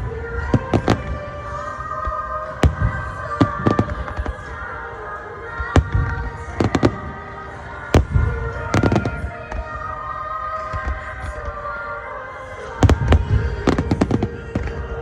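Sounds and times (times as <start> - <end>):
fireworks bursting: 0.0 - 11.7, 12.6 - 15.0
music with long held tones: 0.0 - 15.0.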